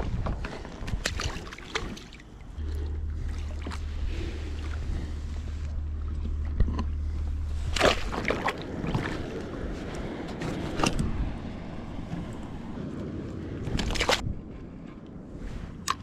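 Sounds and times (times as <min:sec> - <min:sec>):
water sloshing around kayak: 0:00.0 - 0:12.8, 0:13.4 - 0:14.4
steady low rumble: 0:00.0 - 0:16.0.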